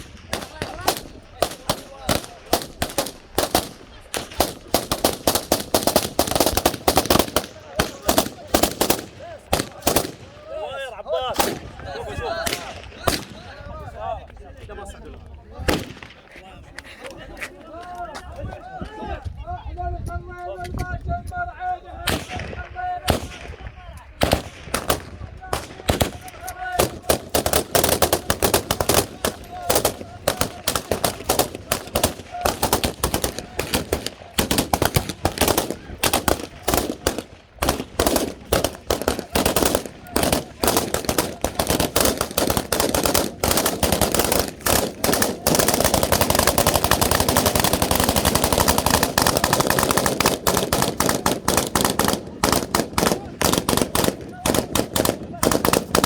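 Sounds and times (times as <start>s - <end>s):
guns firing: 0.0s - 10.7s, 11.3s - 13.6s, 15.7s - 16.3s, 22.0s - 56.0s.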